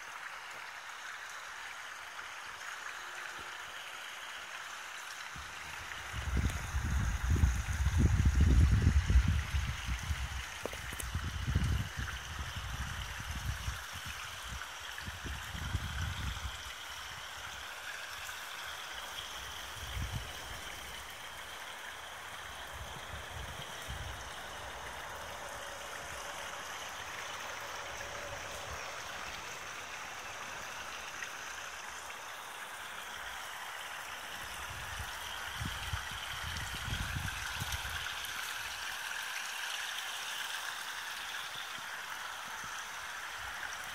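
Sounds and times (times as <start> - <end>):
waterfall splashing into pond: 0.0 - 43.9.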